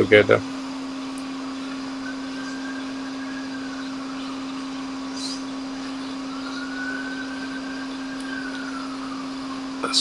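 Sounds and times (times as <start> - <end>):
hot air station motor hum: 0.0 - 10.0.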